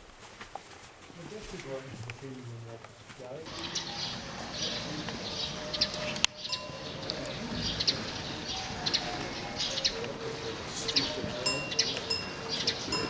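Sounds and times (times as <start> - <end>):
outdoor background: 0.0 - 13.0
small birds chirping: 1.1 - 13.0.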